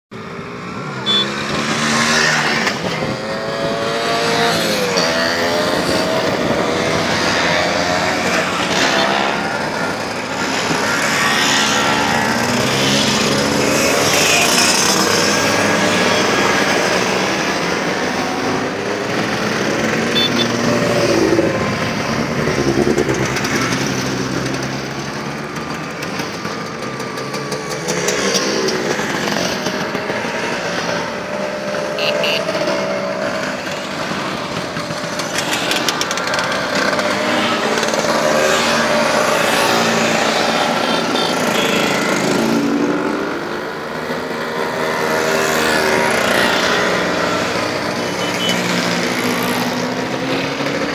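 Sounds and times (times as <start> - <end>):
scooters buzzing past: 0.2 - 50.9.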